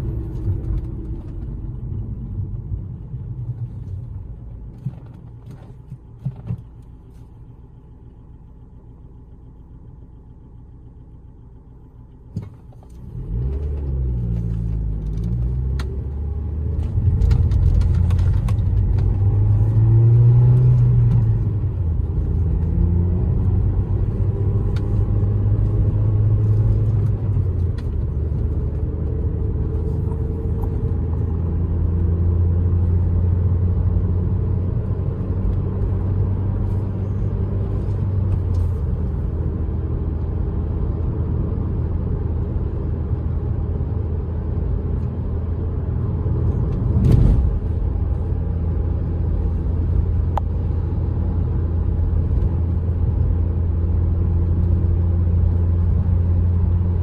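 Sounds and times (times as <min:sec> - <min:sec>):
car engine humming: 0:00.0 - 0:57.0
road noise: 0:00.0 - 0:57.0.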